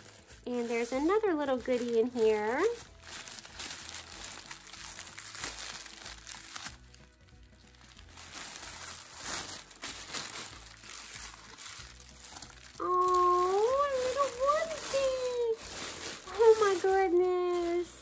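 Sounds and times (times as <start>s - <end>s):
tissue paper crinkling: 0.0s - 18.0s.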